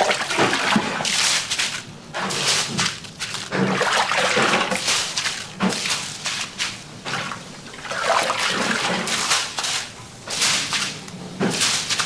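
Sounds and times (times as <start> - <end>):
water splashing and pouring: 0.0 - 9.8.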